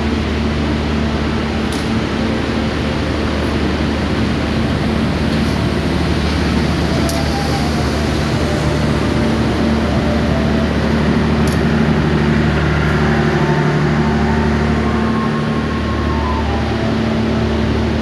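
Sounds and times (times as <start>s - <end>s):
diesel engines droning: 0.0s - 18.0s
train rolling past: 0.0s - 18.0s.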